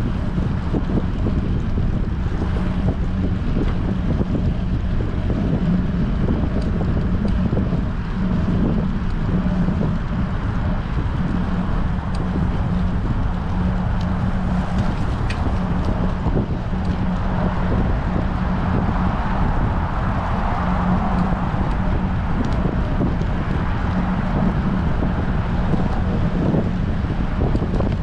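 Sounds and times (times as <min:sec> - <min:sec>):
steady low hum: 0:00.0 - 0:28.0
wind rushing over microphone: 0:00.0 - 0:28.0.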